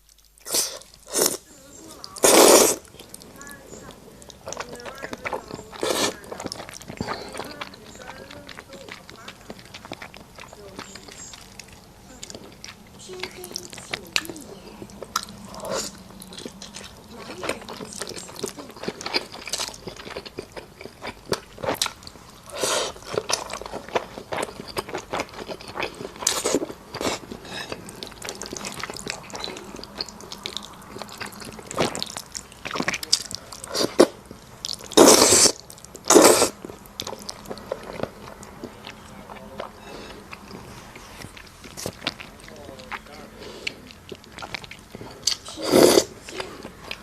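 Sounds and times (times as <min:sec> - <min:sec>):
chewing and wet mouth noises: 0:00.0 - 0:47.0.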